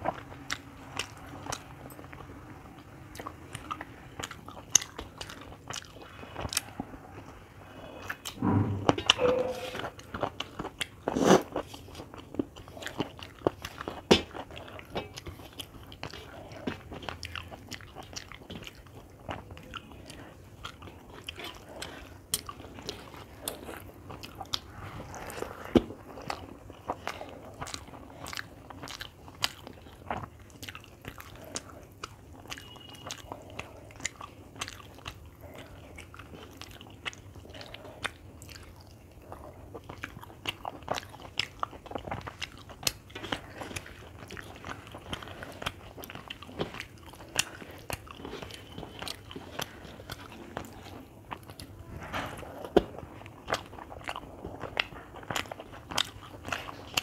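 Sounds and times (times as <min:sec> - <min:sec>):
person chewing and biting: 0:00.0 - 0:06.8, 0:08.0 - 0:51.8, 0:52.5 - 0:57.0.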